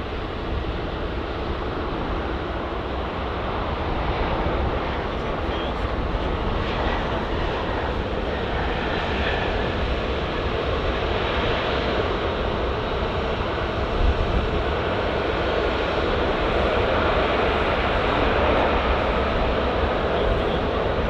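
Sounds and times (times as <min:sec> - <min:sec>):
jet airliner engines: 0:00.0 - 0:21.0.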